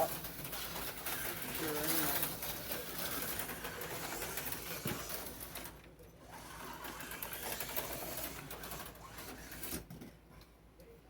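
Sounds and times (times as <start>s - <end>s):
slot car motors whirring: 0.0s - 9.9s.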